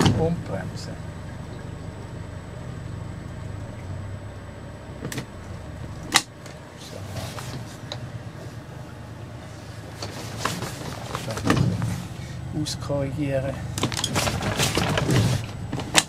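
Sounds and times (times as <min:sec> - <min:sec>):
motorboat engine low hum: 0:00.0 - 0:16.0.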